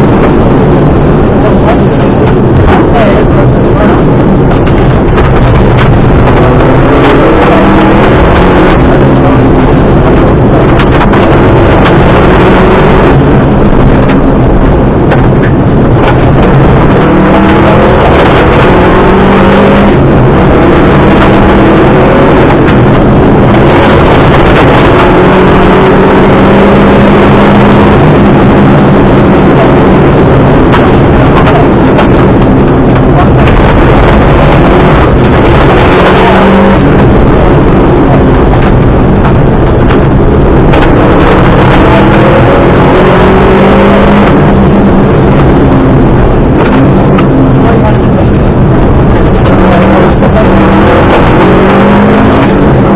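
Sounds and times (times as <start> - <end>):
rally car engine revving hard: 0.0 - 52.9.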